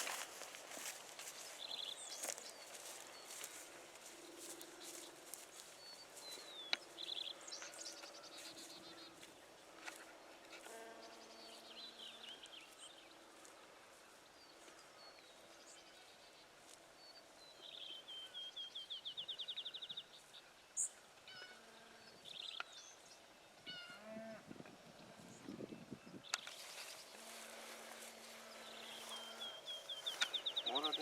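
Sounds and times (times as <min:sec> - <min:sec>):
small birds chirping: 0:00.0 - 0:24.1, 0:25.0 - 0:31.0.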